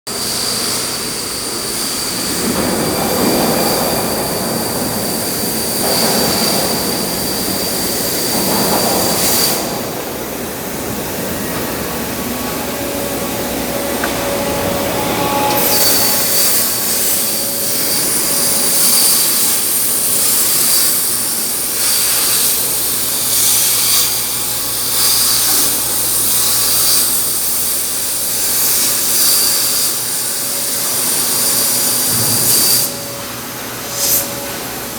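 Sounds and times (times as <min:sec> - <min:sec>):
machine cutting metal: 0:00.1 - 0:34.9.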